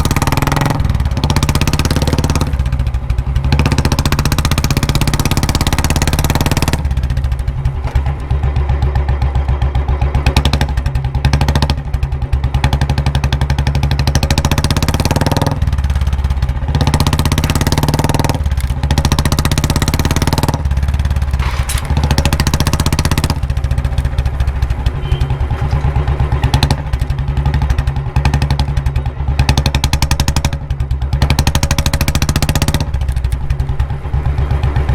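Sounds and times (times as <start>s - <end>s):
motorcycle engine thumping: 0.0s - 34.9s.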